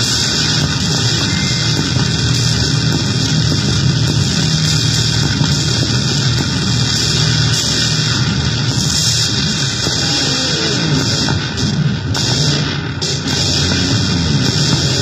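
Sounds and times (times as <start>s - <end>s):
harsh noise drone: 0.0s - 15.0s.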